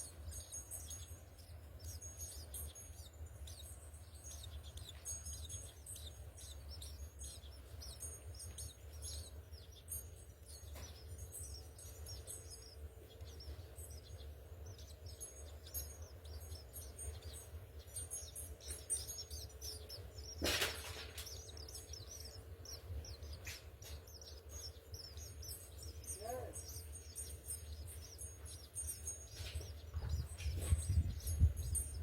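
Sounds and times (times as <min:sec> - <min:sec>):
sparrows chirping: 0:00.0 - 0:32.0
steady low hum: 0:00.0 - 0:32.0.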